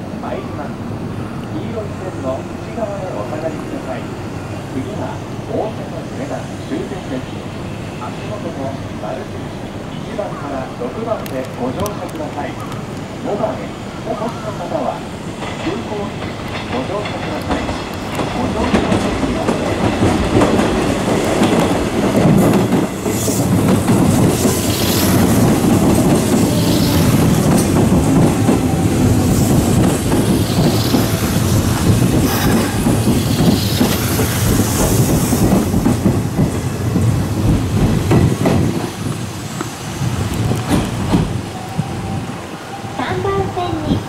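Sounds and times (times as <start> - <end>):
passing train: 0.0 - 44.0.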